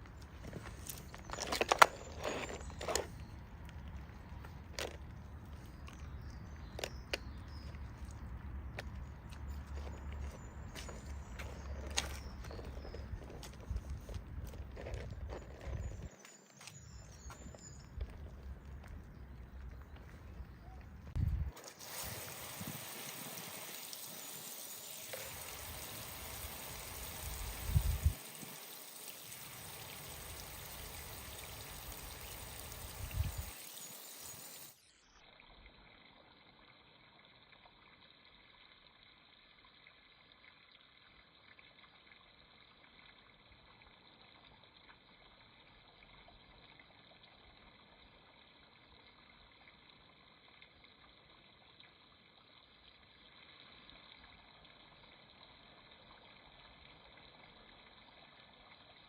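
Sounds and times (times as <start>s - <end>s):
water running and trickling: 0.0s - 59.0s.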